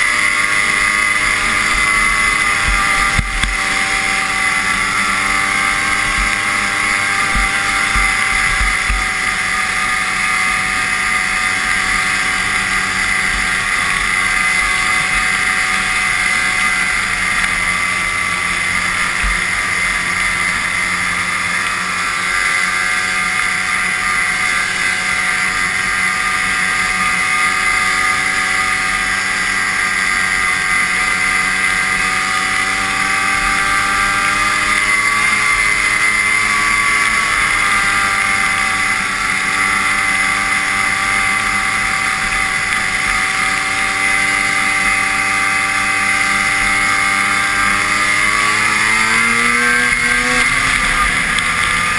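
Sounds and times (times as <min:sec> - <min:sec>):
two-stroke snowmobile engine running: 0:00.0 - 0:51.9.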